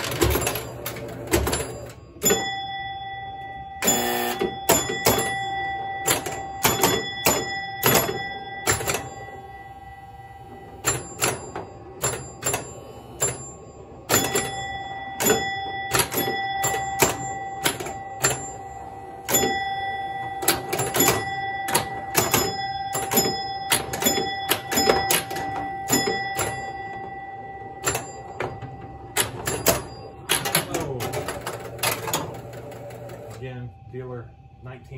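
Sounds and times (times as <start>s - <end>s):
pinball flippers and relays clacking: 0.0s - 2.7s, 3.8s - 9.5s, 10.7s - 33.4s
pinball bell tones: 0.0s - 34.8s
steady electronic tone: 1.8s - 31.0s.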